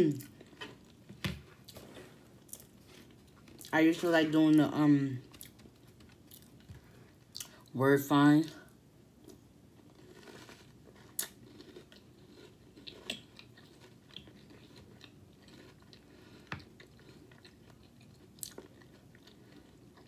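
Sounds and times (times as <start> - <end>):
close-up chewing cereal: 0.1 - 7.8, 8.4 - 20.0.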